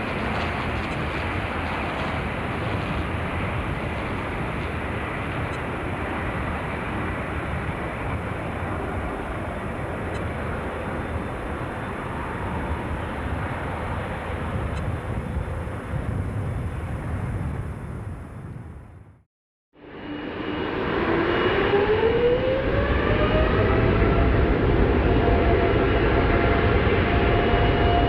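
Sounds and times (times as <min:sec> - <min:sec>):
aircraft engines at takeoff: 0:00.0 - 0:19.1, 0:19.8 - 0:28.0.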